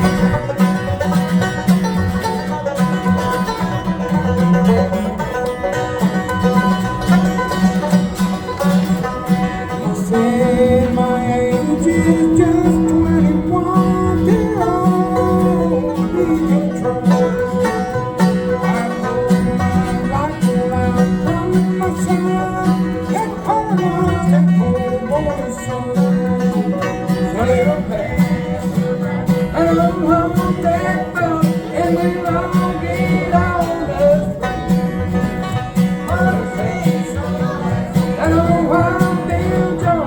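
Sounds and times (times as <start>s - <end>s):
banjo: 0.0s - 40.0s
guitar: 0.0s - 40.0s
sliding melody line: 0.0s - 40.0s
steady beat: 0.0s - 40.0s.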